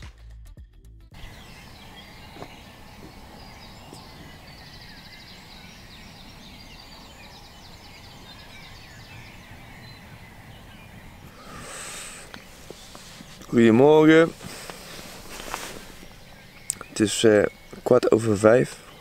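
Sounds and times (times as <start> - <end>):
bird trill: 1.2 - 19.0
birds chirping and whistling: 1.2 - 19.0.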